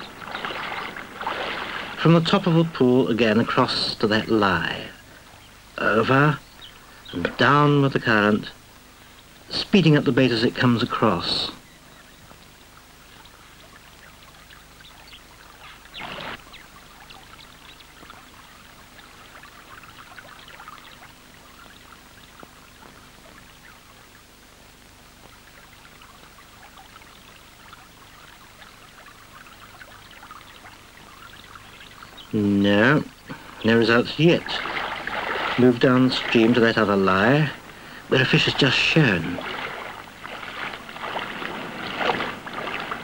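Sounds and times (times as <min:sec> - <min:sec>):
faint steady hum: 0:00.0 - 0:43.0
river water trickling: 0:00.0 - 0:43.0.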